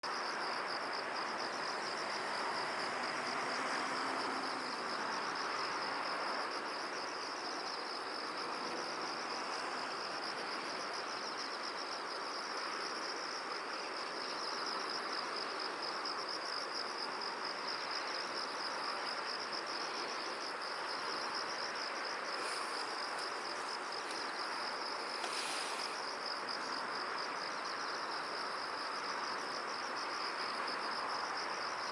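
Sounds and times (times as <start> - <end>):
crickets chirping: 0.0 - 31.9.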